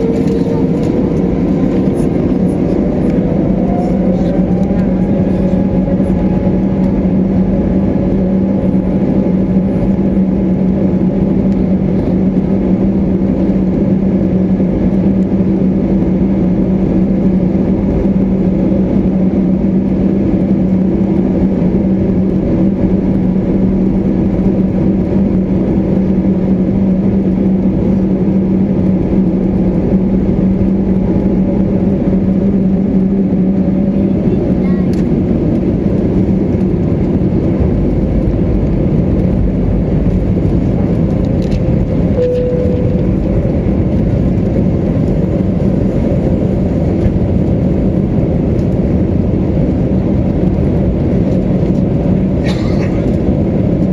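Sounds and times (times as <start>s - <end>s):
airplane cabin drone: 0.0s - 53.9s.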